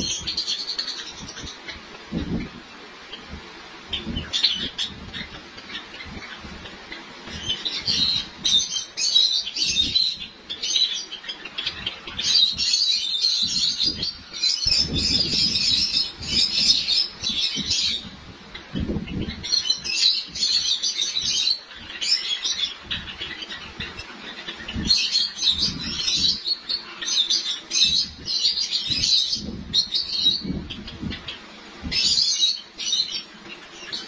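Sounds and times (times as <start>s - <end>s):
sparrows chirping: 0.0s - 34.0s.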